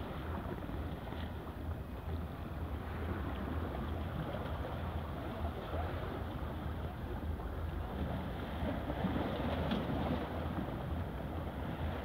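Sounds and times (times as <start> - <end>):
calm sea at rocky shore: 0.0 - 12.0.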